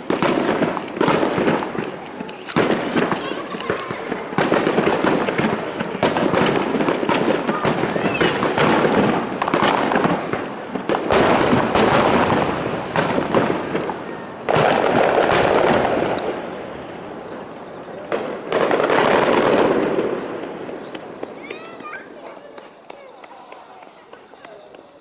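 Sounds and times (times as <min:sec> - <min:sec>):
fireworks bursting with bangs and crackle: 0:00.0 - 0:25.0.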